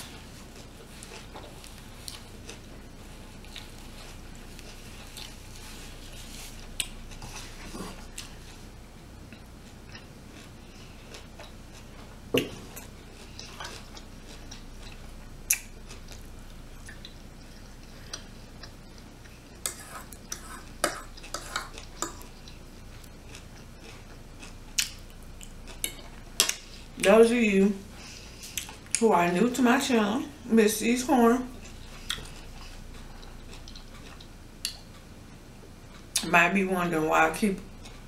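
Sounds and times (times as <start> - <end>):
person chewing: 0.0 - 27.0, 28.0 - 29.0, 31.5 - 36.2.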